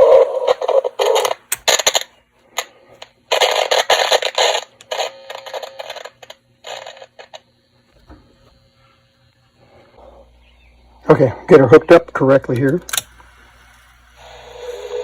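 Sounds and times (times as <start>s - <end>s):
faint electrical hum: 0.0s - 15.0s
scratchy crackling playback noise: 0.0s - 15.0s.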